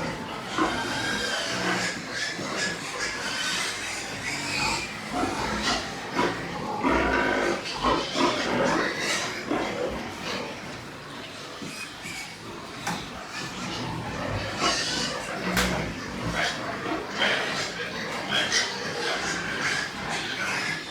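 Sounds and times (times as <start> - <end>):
pigs calling: 0.0 - 20.9.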